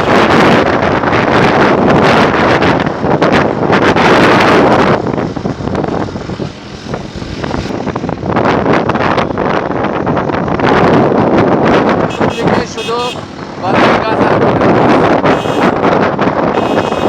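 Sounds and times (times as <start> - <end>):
motorcycle ride rush: 0.0 - 17.0
wind buffeting microphone: 0.0 - 17.0.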